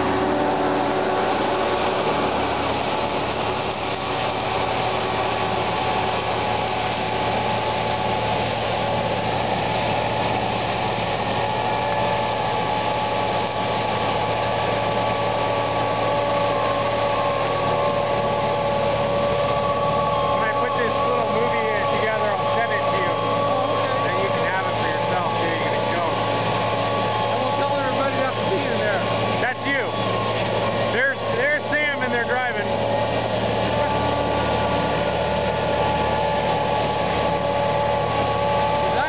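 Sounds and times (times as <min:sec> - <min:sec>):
tracked mulcher shredding brush: 0:00.0 - 0:39.0.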